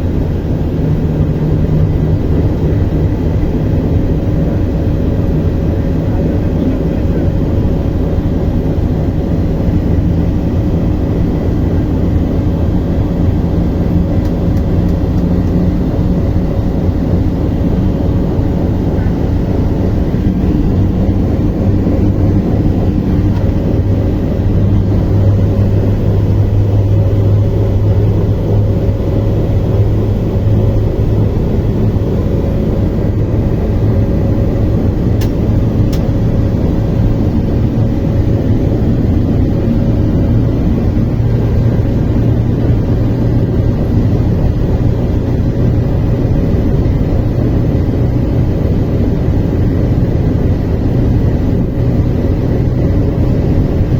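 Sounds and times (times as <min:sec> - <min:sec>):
constant hum: 0:00.0 - 0:53.9
moving train rumble: 0:00.0 - 0:53.9.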